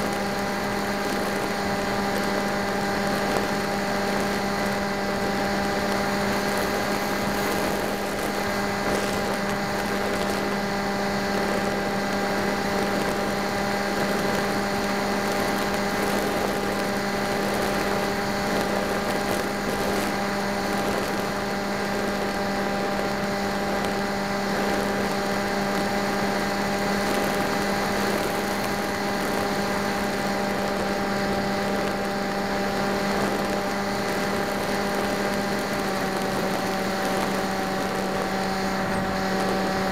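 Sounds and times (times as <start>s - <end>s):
model aircraft motor and propeller: 0.0s - 39.9s.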